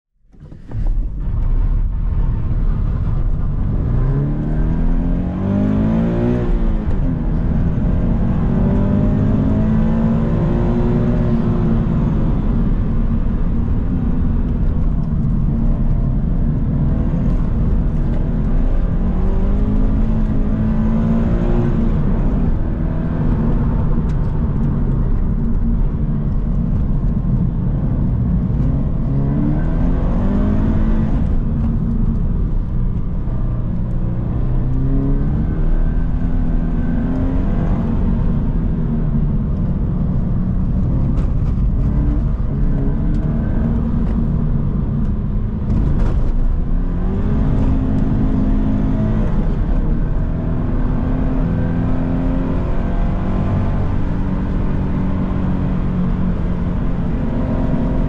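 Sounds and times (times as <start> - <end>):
road and tyre noise: 0.2 - 58.0
car engine revving: 0.3 - 58.0.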